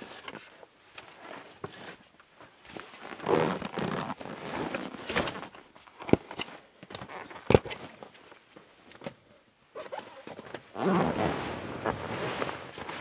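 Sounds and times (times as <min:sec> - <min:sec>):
canvas and straps rustling: 0:00.0 - 0:08.0, 0:09.7 - 0:13.0.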